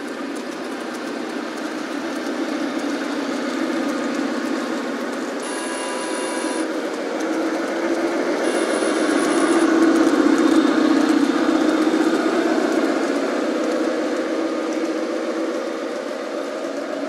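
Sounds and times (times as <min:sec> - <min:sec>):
model train running on rails: 0:00.0 - 0:17.0.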